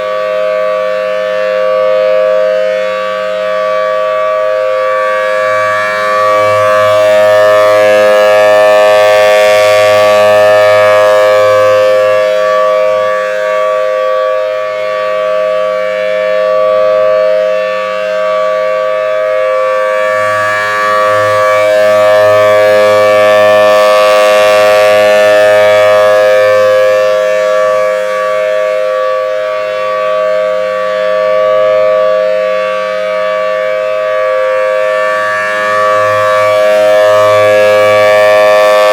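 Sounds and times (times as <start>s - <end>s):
siren steady alert tone: 0.0s - 38.9s.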